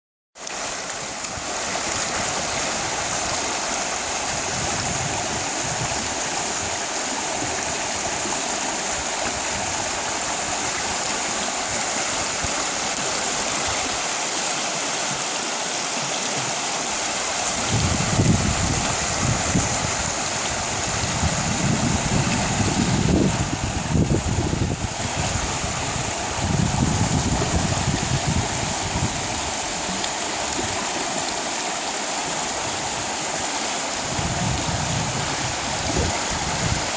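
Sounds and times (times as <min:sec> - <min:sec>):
river rushing over rocks: 0:00.4 - 0:36.9.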